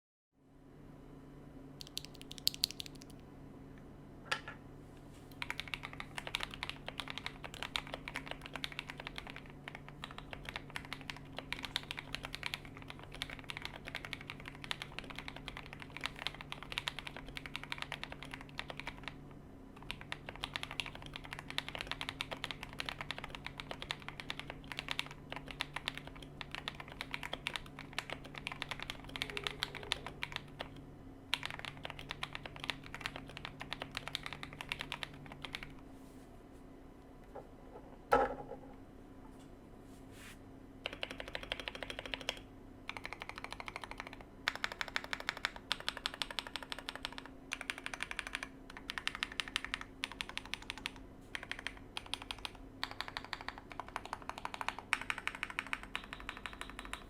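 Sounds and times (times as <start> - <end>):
fast typing on mechanical keyboard: 1.8 - 3.2, 5.4 - 19.2, 19.8 - 35.8, 40.8 - 57.0.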